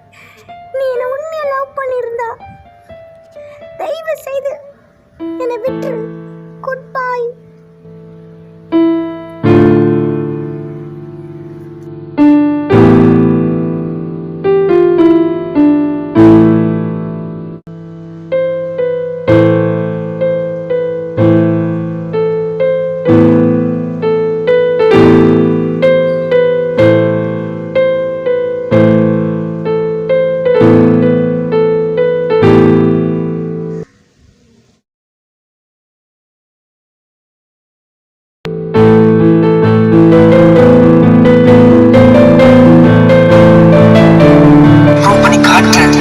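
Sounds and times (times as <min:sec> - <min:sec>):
slow solo piano: 0:00.0 - 0:34.6, 0:38.5 - 0:46.0.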